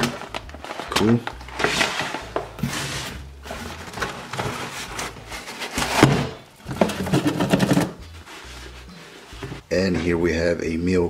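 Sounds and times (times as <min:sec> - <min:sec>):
cardboard scraping and rustling: 0:00.0 - 0:09.7.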